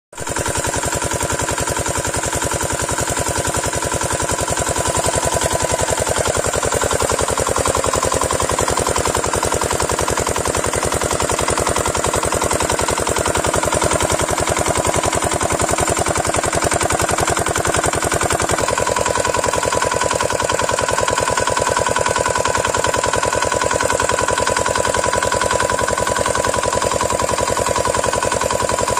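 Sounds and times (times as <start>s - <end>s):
diesel engine running: 2.1s - 28.9s.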